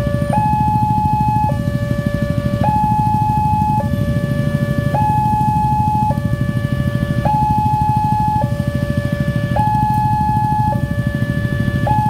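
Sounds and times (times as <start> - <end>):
level crossing two-tone alarm: 0.0 - 12.0
motorcycle engines idling: 0.0 - 12.0.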